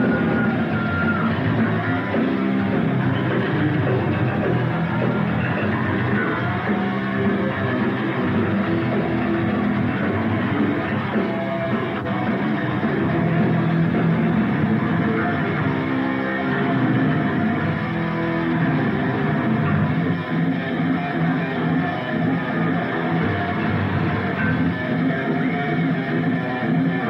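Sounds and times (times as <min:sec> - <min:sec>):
distorted electric guitars: 0:00.0 - 0:27.0
drum kit: 0:00.0 - 0:27.0.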